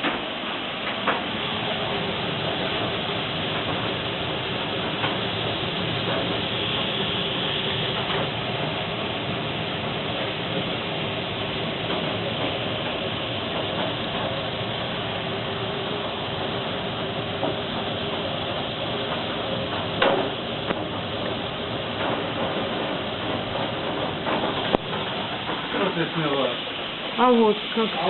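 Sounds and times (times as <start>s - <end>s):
hailstones striking: 0.0s - 28.0s
rain pouring down: 0.0s - 28.0s.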